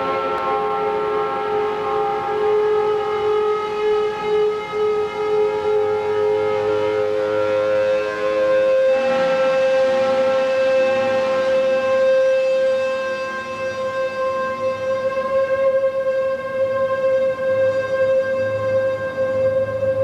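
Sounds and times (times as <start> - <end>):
droning held chord: 0.0 - 20.0.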